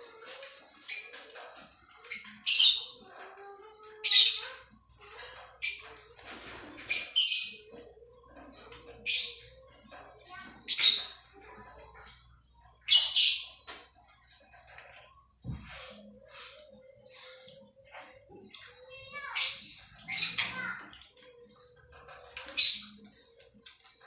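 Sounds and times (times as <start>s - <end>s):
parakeets screeching: 0.0s - 24.0s
quiet bird chatter: 0.0s - 24.0s.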